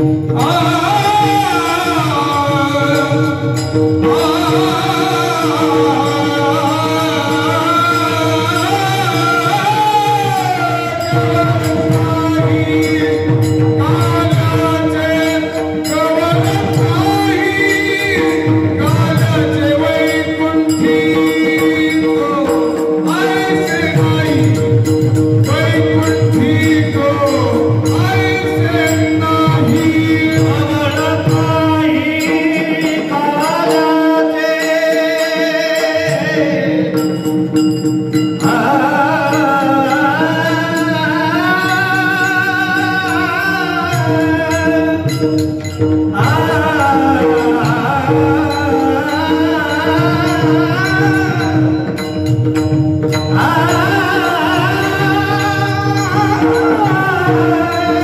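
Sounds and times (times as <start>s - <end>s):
hand cymbals: 0.0s - 58.0s
men singing devotional song: 0.0s - 58.0s.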